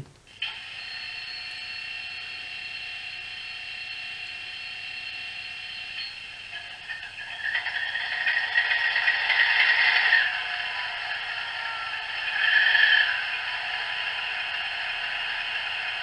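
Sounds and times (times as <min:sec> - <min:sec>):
speaker hiss: 0:00.0 - 0:16.0.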